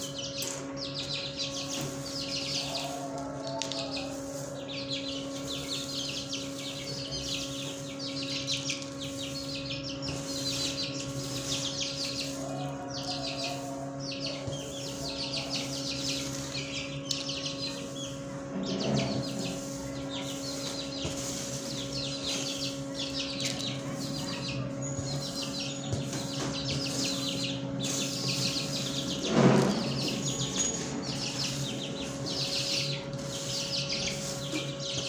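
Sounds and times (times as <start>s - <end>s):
electrical hum: 0.0s - 35.0s
small birds chirping: 0.0s - 35.0s.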